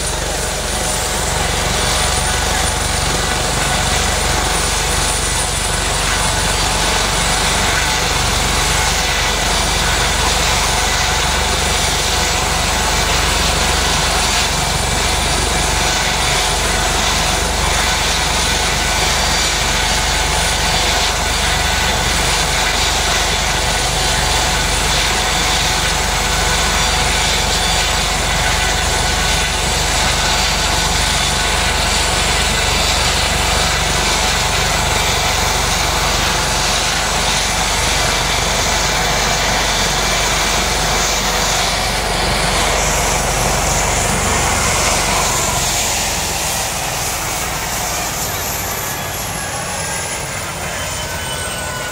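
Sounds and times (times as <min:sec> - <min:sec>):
helicopter rotor noise: 0:00.0 - 0:51.9
helicopter turbine whine: 0:00.0 - 0:51.9.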